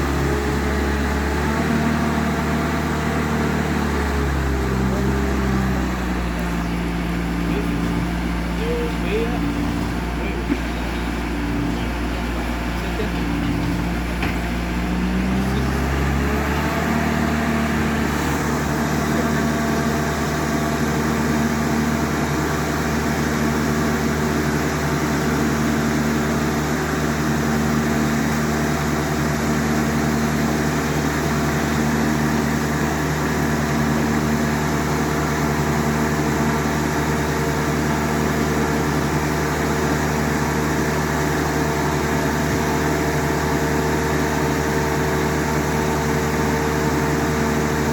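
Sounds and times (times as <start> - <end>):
motor running steadily: 0.0 - 47.9.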